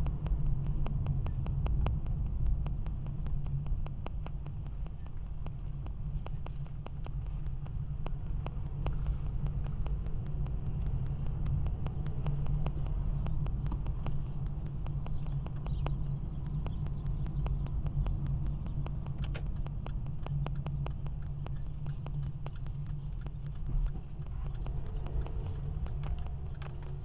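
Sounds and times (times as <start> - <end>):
engine and road rumble: 0.0 - 27.0
even ticking: 0.0 - 27.0.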